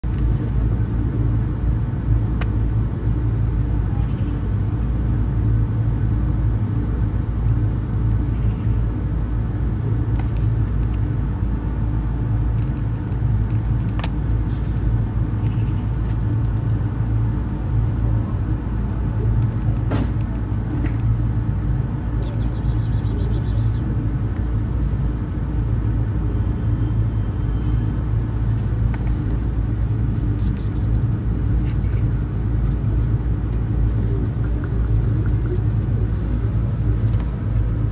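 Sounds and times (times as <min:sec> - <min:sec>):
low mechanical rumble: 0:00.0 - 0:37.9.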